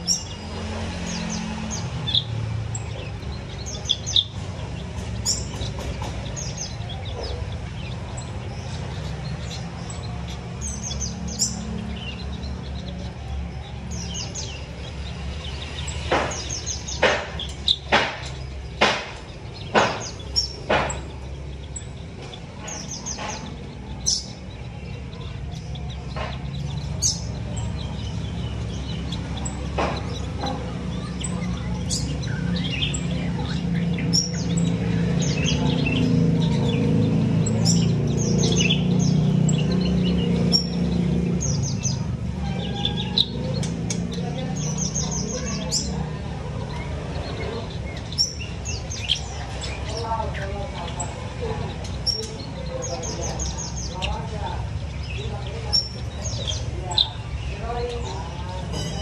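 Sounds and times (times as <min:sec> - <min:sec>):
loud sharp sounds: 0:00.0 - 0:59.0
small birds chirping and twittering: 0:00.0 - 0:59.0.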